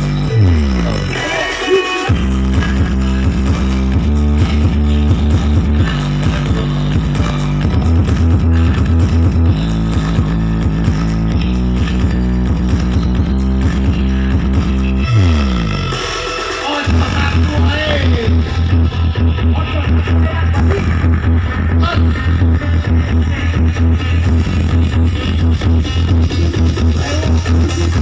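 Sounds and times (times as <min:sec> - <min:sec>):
loud music with booming bass: 0:00.0 - 0:28.0.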